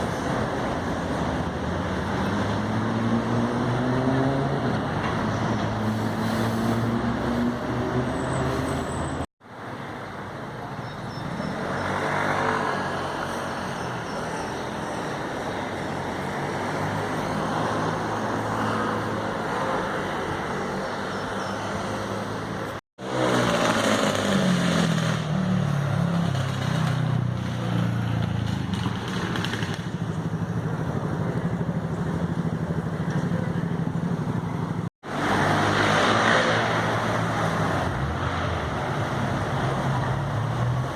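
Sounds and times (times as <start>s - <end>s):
motorcycles revving: 0.0s - 9.3s, 11.2s - 40.9s.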